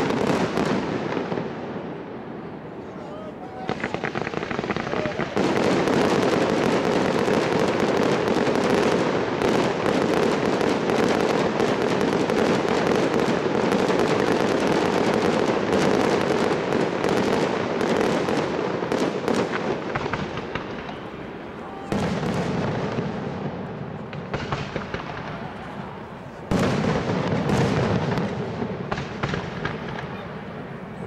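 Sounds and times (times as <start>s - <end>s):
firework fountain crackling hiss: 0.0s - 31.0s.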